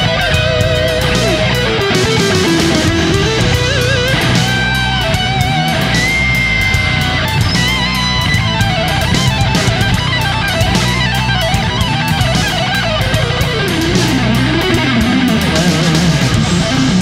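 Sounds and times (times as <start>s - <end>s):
electric guitar melody: 0.0s - 17.0s
steady drum beat: 0.0s - 17.0s.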